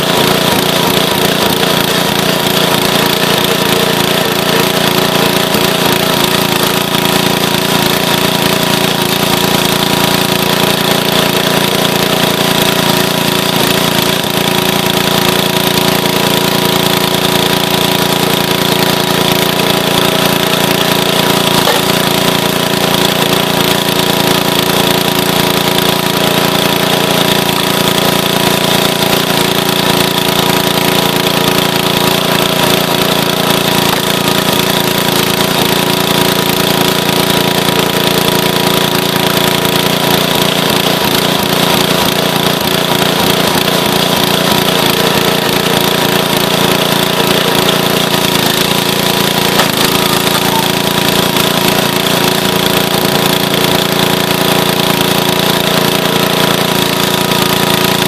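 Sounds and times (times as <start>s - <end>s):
small gasoline engine running: 0.0s - 58.0s.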